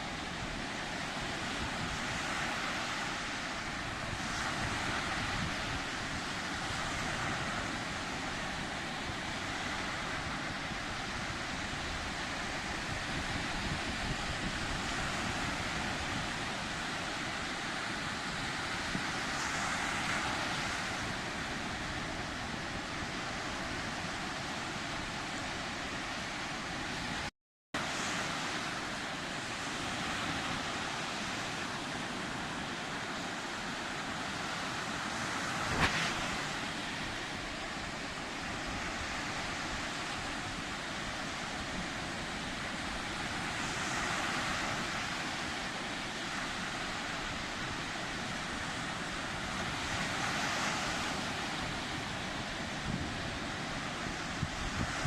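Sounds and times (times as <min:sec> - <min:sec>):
sea waves washing: 0:00.0 - 0:55.0.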